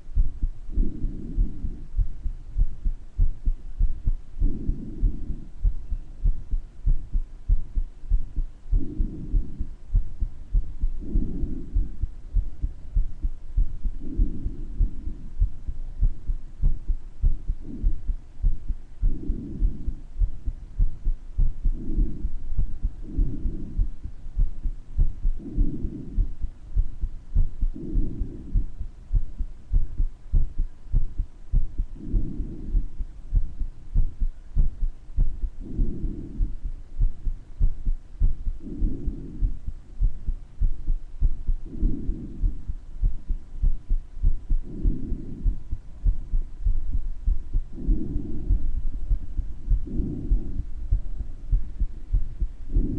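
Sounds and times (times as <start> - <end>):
breath sounds: 0.0 - 52.9
heartbeat thuds: 0.0 - 52.9.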